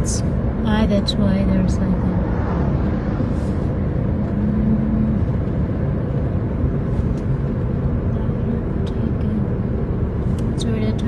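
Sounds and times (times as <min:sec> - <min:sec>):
faint car engine hum: 0:00.0 - 0:11.0
road rumble: 0:00.0 - 0:11.0.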